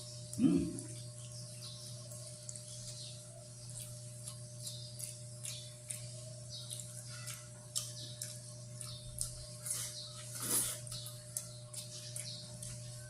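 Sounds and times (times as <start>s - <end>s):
chewing and mouth smacking: 0.0s - 13.0s
low electrical hum: 0.0s - 13.0s.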